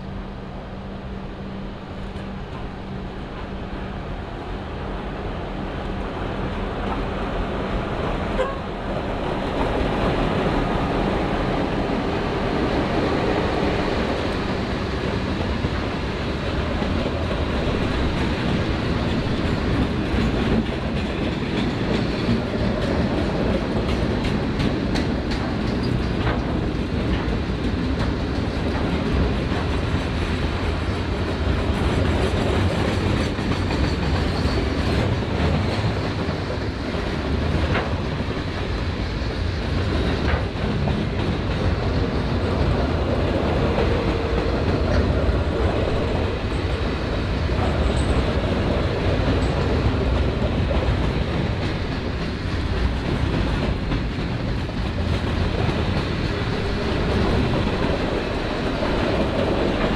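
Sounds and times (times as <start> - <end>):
freight train wheels clattering: 6.4 - 59.9.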